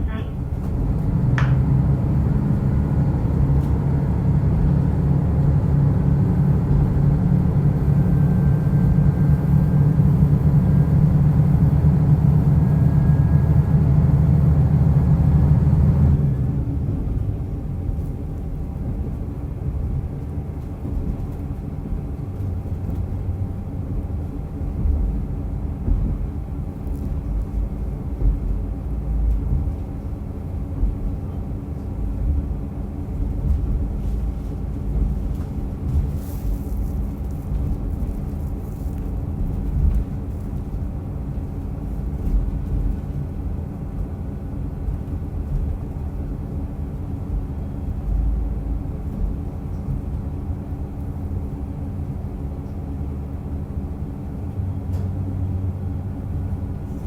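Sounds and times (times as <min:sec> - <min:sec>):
railcar engine drone: 0:00.0 - 0:57.0
wheels rumbling on rails: 0:00.0 - 0:57.0.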